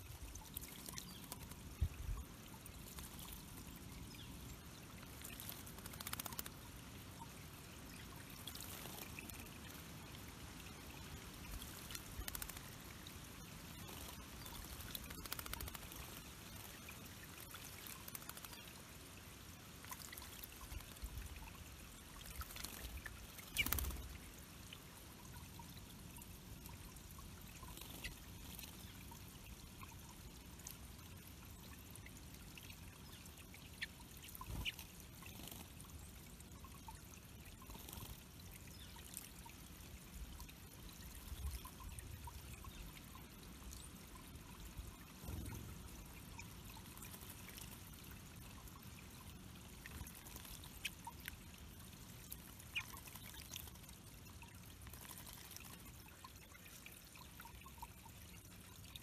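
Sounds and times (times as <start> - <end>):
water trickling over stones: 0.0 - 59.0.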